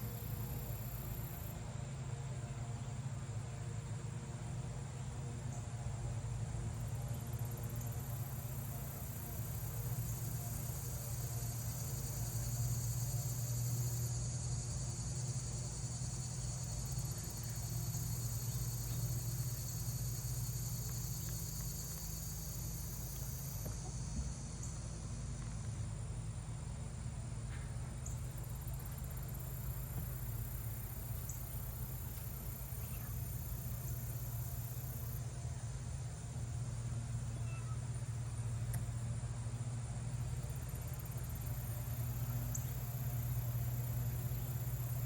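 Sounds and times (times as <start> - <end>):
insects chirring: 0.0 - 2.2, 3.1 - 45.0.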